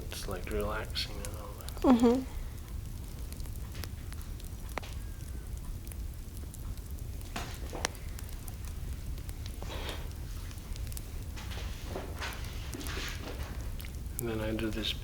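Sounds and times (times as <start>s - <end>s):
wood fire crackling: 0.0s - 15.0s
sharp pops: 2.6s - 14.9s.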